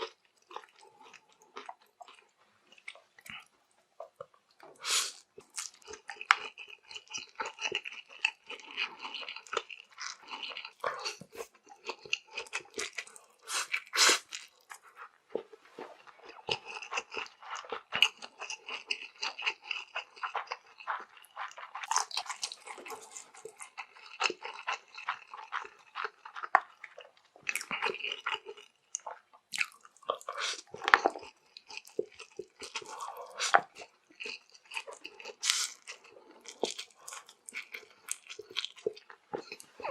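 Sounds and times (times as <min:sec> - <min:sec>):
wet chewing noodles: 0:00.0 - 0:39.9.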